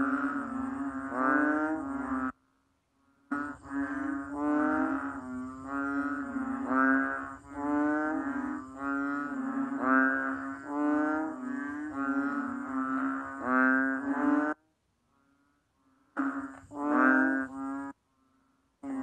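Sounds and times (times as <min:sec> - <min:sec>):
frog mooing calls: 0:00.0 - 0:02.4, 0:03.0 - 0:18.0, 0:18.8 - 0:19.0.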